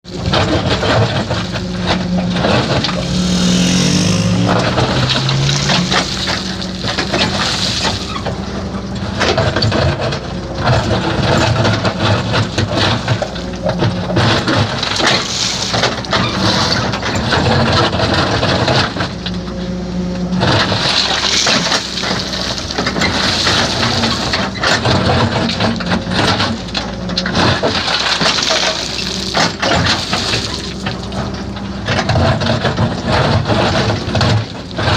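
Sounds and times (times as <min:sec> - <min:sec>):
construction machine engine revving: 0:00.1 - 0:34.9.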